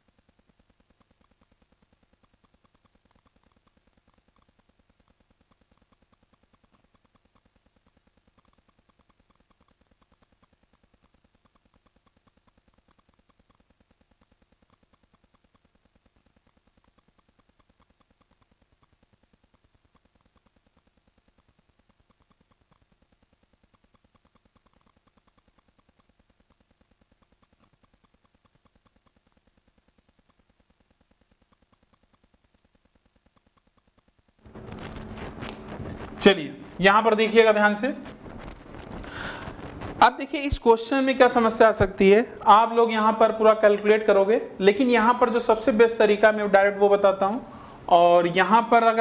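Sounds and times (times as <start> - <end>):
stopwatch ticking: 0.0 - 46.5.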